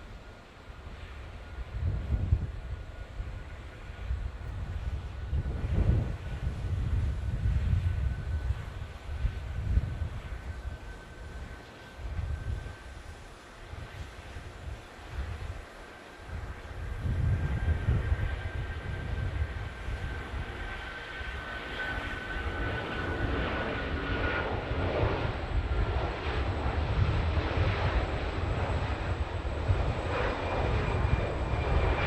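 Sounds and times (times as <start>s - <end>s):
jet airliner passing: 0.0s - 32.0s.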